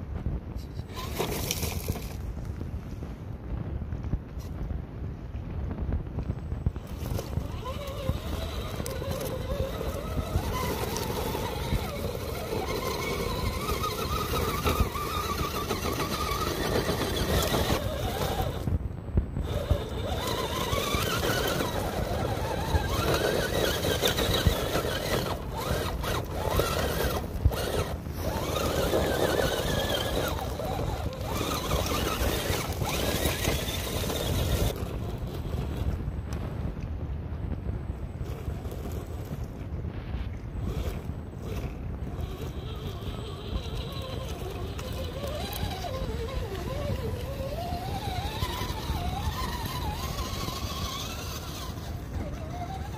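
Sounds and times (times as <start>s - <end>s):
rc car electric motor whining: 0.8s - 2.2s, 6.7s - 18.8s, 19.4s - 36.0s, 38.2s - 39.6s, 40.6s - 52.9s.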